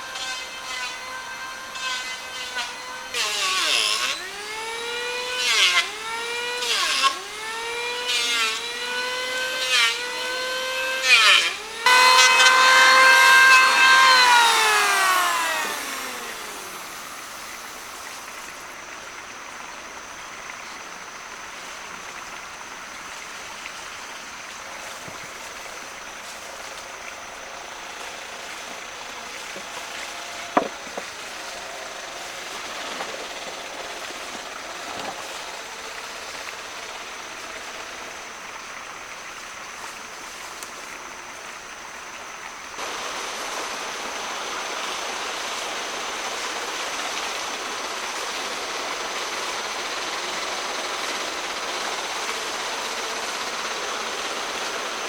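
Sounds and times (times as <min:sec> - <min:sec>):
power tool cutting wood: 0:00.0 - 0:18.7, 0:24.7 - 0:38.4, 0:42.8 - 0:55.0.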